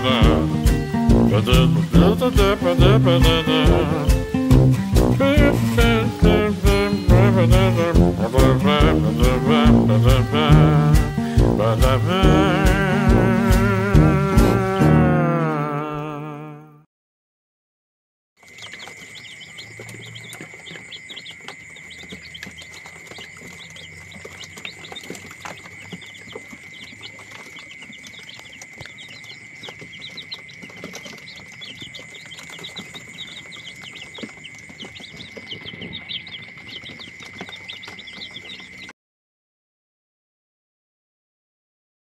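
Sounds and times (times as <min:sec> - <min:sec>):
chicks peeping: 0:00.0 - 0:14.6, 0:18.4 - 0:38.9.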